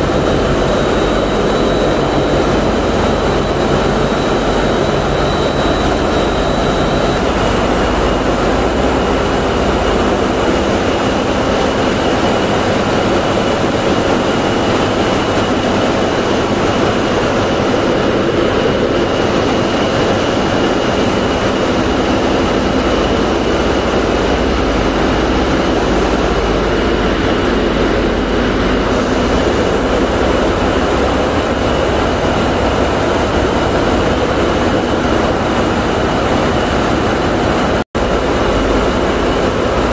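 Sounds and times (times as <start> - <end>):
diesel engines running: 0.0 - 39.9
thin high whine: 0.0 - 39.9.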